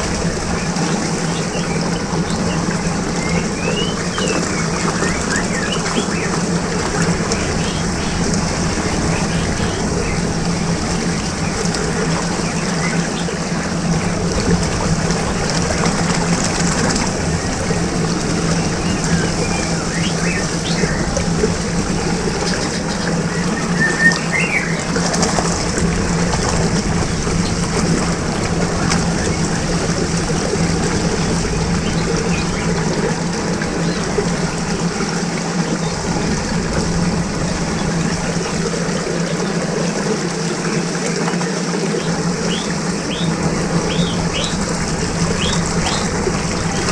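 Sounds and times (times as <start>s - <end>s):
churning whirlpool water: 0.0s - 46.9s
low steady hum: 0.0s - 46.9s.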